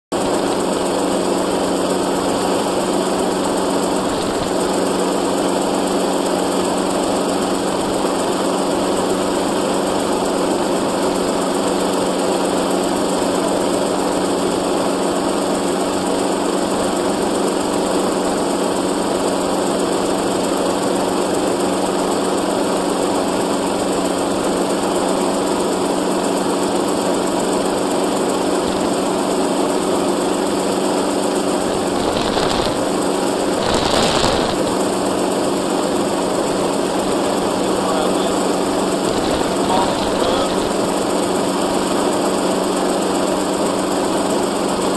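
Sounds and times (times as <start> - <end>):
helicopter engine and rotor drone: 0.1 - 44.9.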